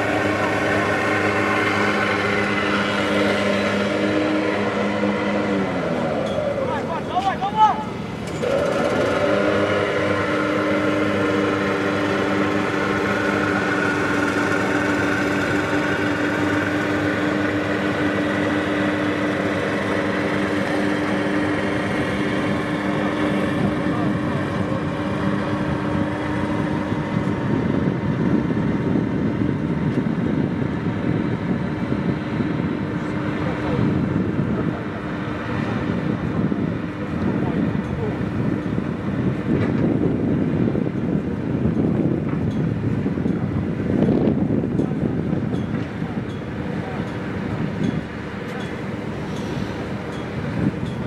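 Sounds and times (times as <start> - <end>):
outdoor background noise: 0.0 - 51.0
steady motor-like hum: 0.0 - 51.0.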